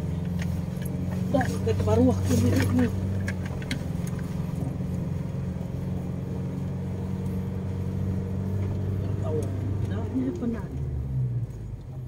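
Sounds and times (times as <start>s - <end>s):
vehicle engine and tyres droning: 0.0s - 12.0s.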